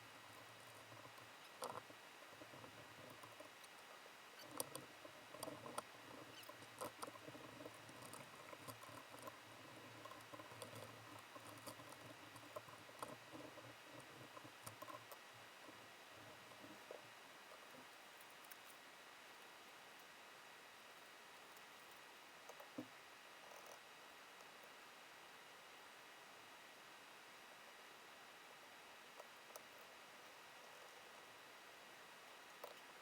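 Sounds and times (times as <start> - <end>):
faint clicks taps and scratching: 0.2 - 20.2, 20.8 - 24.8, 29.0 - 31.3, 32.0 - 33.0.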